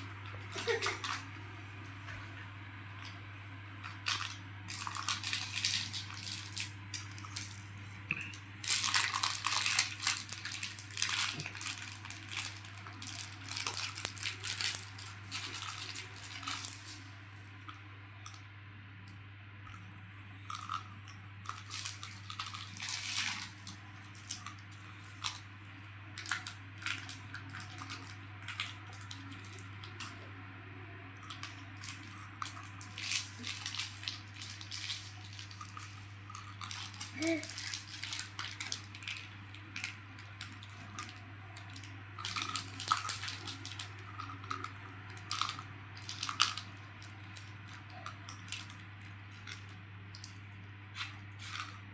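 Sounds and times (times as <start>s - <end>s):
crinkling and crackling of food handling: 0.0s - 18.4s, 19.6s - 30.4s, 31.2s - 51.9s.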